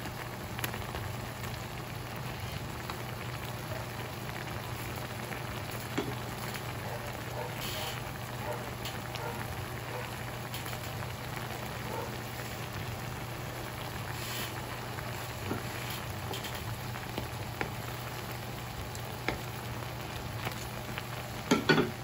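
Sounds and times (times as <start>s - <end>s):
shrimp sizzling in a pan: 0.0s - 22.0s.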